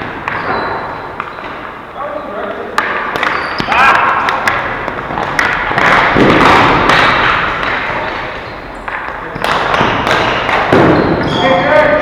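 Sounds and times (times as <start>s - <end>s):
sticks and ball striking: 0.0s - 1.8s, 2.7s - 11.6s.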